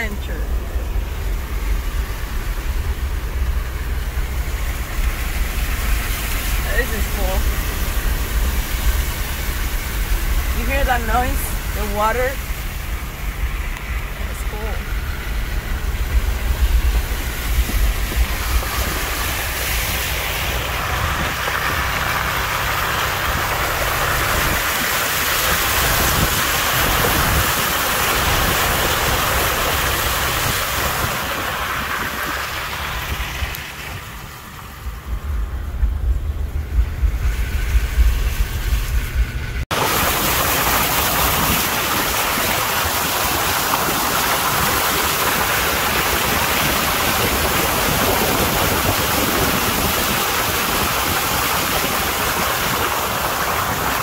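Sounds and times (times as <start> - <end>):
tyres splashing through water: 0.0 - 54.0
wind rumble on microphone: 0.0 - 54.0.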